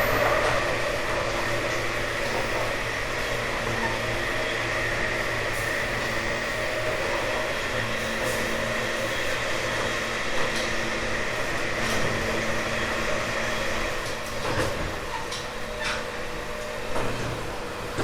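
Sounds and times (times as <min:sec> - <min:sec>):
traction motor hum and whine: 0:00.0 - 0:18.0.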